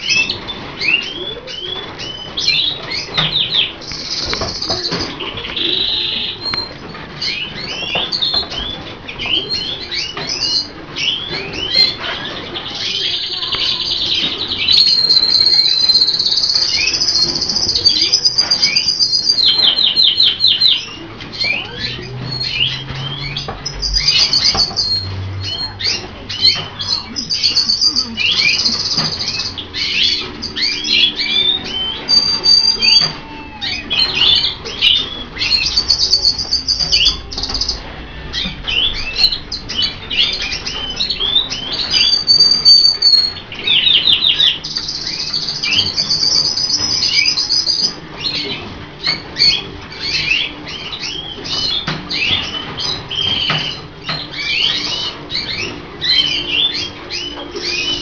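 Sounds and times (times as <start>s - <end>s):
canaries singing: 0.0s - 58.0s.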